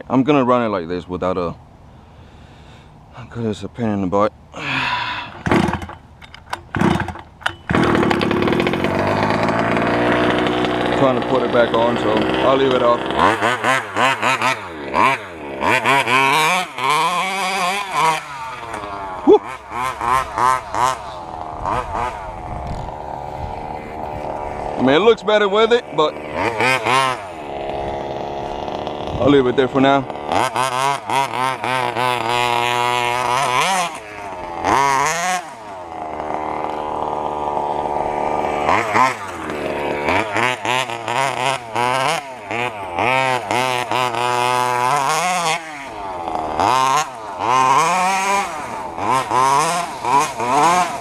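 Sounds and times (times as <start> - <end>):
two-stroke engine revving: 4.6 - 51.0.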